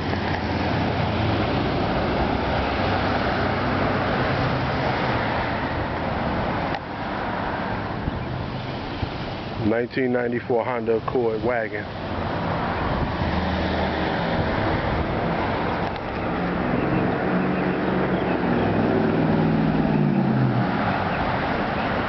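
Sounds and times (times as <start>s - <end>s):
wind or road noise: 0.0s - 22.0s.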